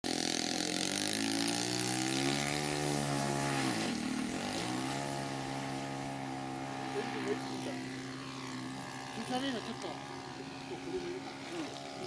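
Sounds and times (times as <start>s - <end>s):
propeller plane engine buzzing: 0.0s - 12.0s.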